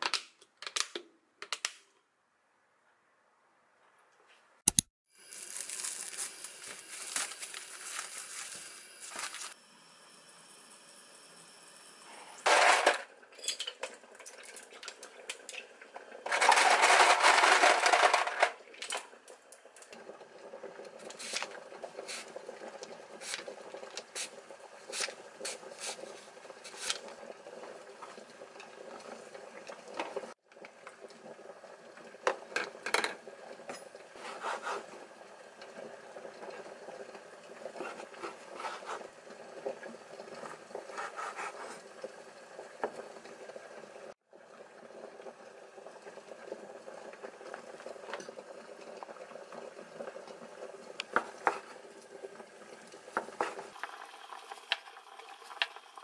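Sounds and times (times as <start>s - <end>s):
tap water running: 5.1s - 56.0s.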